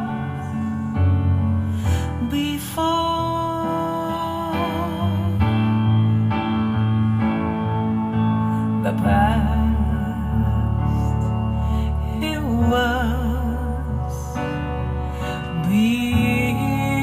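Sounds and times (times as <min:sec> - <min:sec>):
music over loudspeakers: 0:00.0 - 0:17.0.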